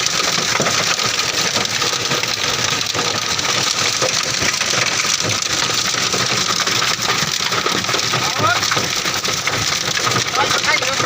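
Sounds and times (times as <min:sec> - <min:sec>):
hail pelting a car: 0:00.0 - 0:11.0
rain hiss: 0:00.0 - 0:11.0.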